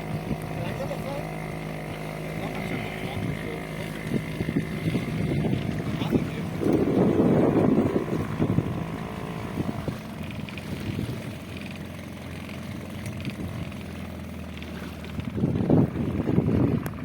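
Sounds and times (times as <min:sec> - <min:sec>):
wind buffeting microphone: 0:00.0 - 0:00.8, 0:02.8 - 0:17.0
boat engine running: 0:00.0 - 0:17.0.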